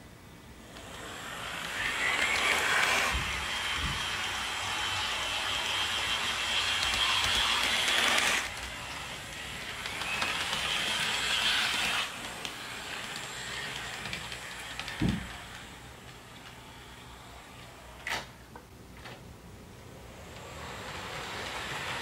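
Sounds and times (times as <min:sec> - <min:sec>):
model train running on track: 0:00.6 - 0:18.0, 0:20.0 - 0:22.0.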